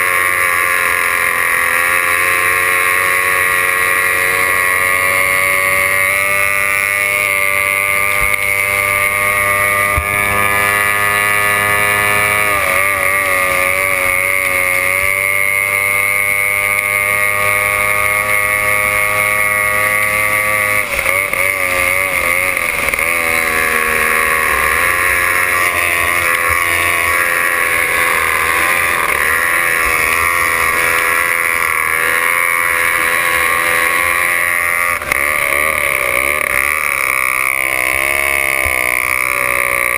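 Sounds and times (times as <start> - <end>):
outboard engine whining at full throttle: 0.0 - 39.9.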